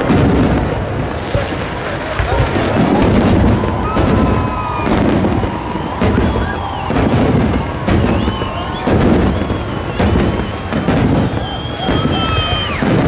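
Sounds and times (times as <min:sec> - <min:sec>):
fireworks bursting with bangs: 0:00.0 - 0:13.0
whistling fireworks: 0:00.0 - 0:13.0.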